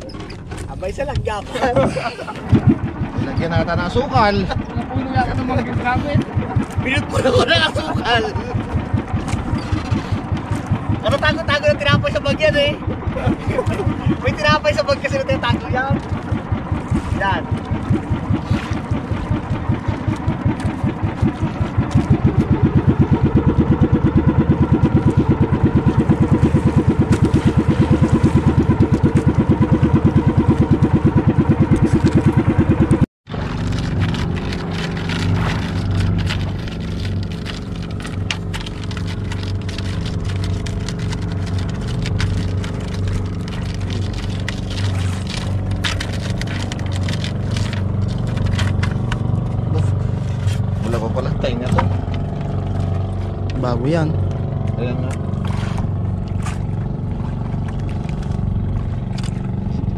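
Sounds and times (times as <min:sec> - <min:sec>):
small boat engine pulsing: 0:00.0 - 0:59.9.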